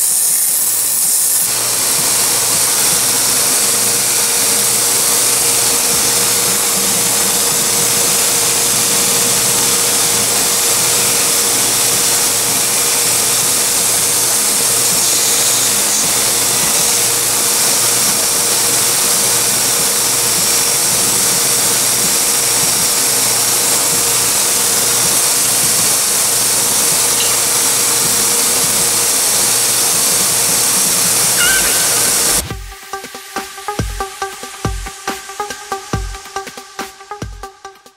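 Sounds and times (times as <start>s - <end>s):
belt grinder running: 0.0s - 32.7s.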